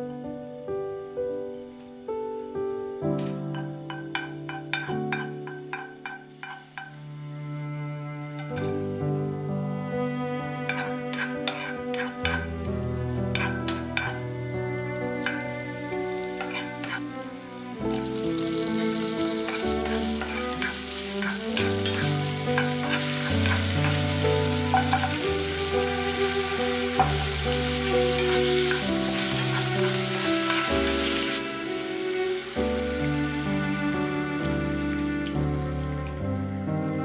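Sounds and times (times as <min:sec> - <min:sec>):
soft background music: 0:00.0 - 0:37.0
food sizzling in a frying pan: 0:03.5 - 0:07.5, 0:10.4 - 0:37.0.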